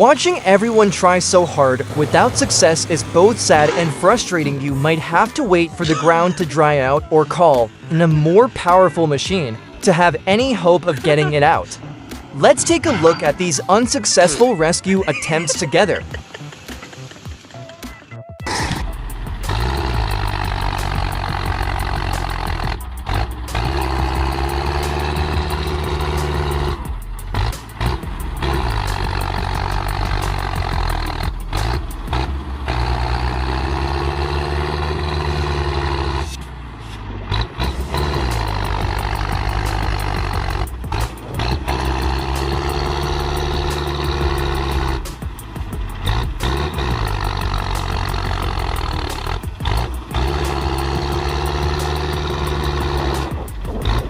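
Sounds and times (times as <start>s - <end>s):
tractor diesel engines labouring: 0.0s - 54.0s.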